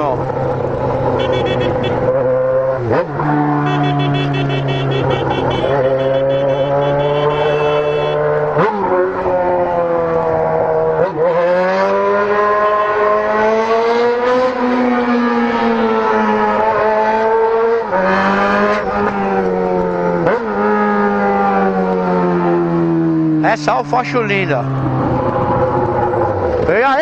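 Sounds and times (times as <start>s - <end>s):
motorcycle engine accelerating through gears: 0.0s - 27.0s.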